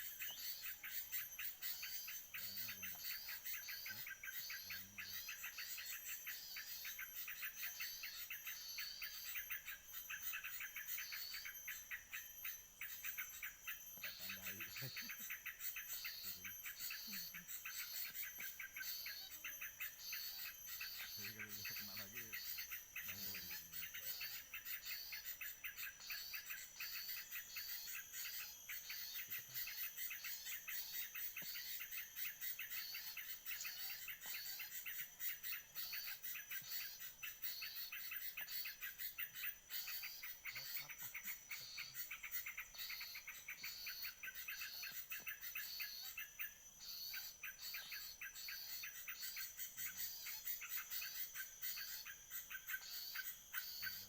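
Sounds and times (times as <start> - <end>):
birds chirping: 0.0 - 54.0
high insect buzz: 0.0 - 54.0
whistled bird phrases: 0.0 - 54.0.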